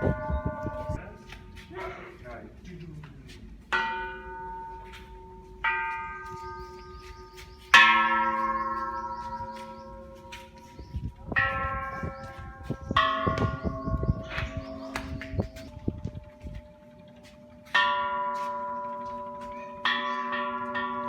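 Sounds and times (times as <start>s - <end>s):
temple bells ringing: 0.0s - 21.0s.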